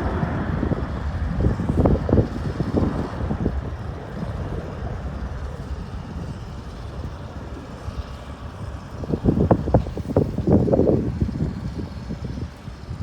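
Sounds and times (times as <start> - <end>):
gusty wind on microphone: 0.0 - 13.0
steady low rumble: 0.0 - 13.0.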